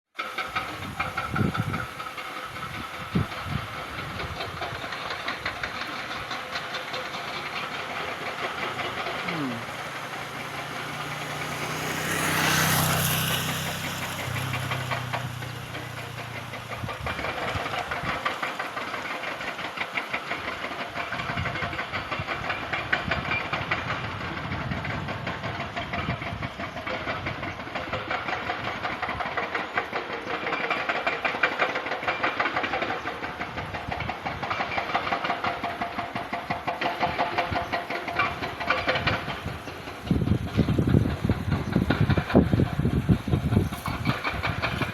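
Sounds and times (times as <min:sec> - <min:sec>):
excavator diesel engine clattering: 0:00.2 - 0:44.9.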